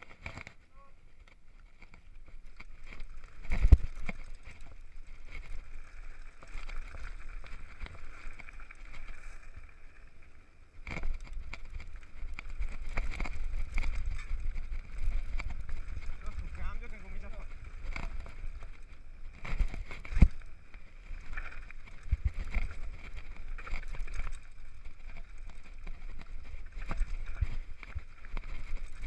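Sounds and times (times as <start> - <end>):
bike rattling and knocking: 0.0 - 9.6, 10.7 - 29.0
bike tyres on gravel: 0.0 - 29.0.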